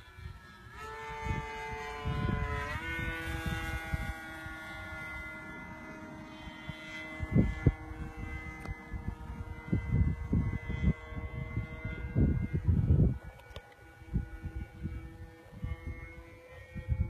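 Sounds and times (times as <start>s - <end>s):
model plane motor whining: 0.0s - 17.0s.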